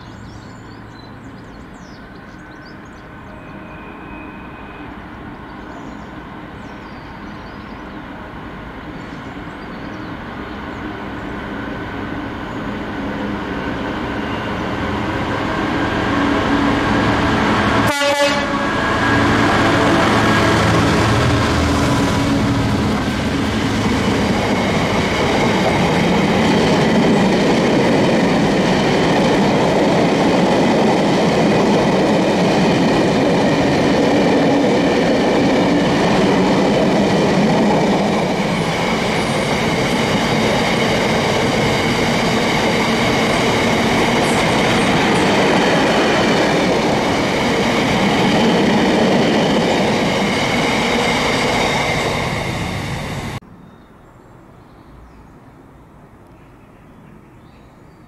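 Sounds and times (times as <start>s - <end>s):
diesel locomotive passing: 0.0s - 53.5s.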